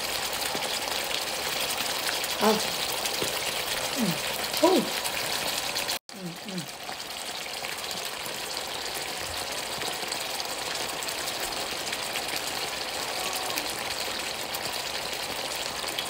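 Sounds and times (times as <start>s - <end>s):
broth boiling hard with pops: 0.0s - 16.0s.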